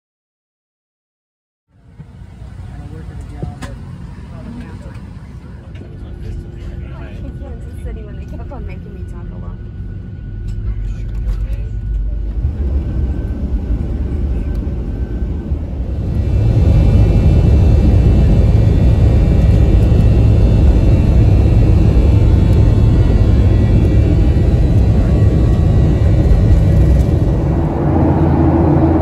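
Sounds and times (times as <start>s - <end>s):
faint engine whine: 1.7s - 29.0s
jet engines roaring: 1.8s - 29.0s.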